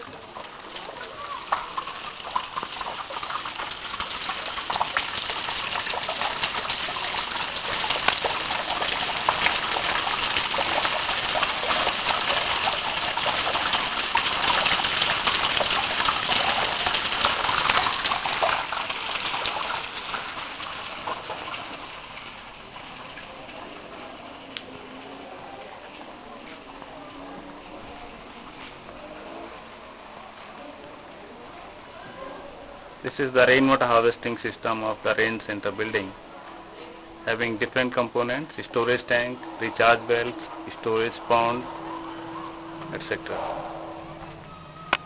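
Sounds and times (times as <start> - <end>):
water drops and trickles: 0.0 - 25.2, 33.1 - 45.0.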